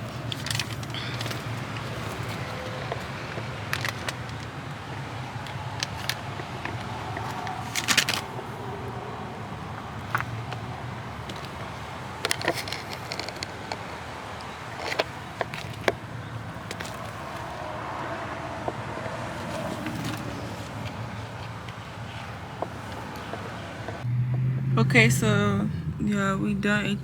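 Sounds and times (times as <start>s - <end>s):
all-terrain vehicle engine droning: 0.0s - 27.0s.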